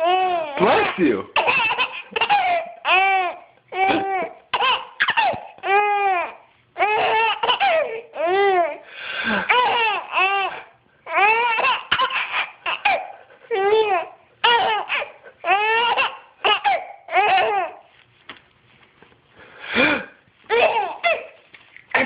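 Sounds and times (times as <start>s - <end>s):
baby laughing: 0.0s - 17.8s, 20.5s - 21.4s.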